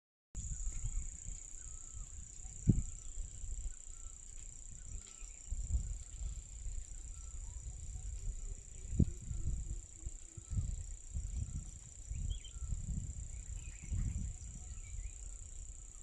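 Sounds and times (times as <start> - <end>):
high-pitched insect drone: 0.4 - 16.0
wind rumble on microphone: 0.4 - 16.0.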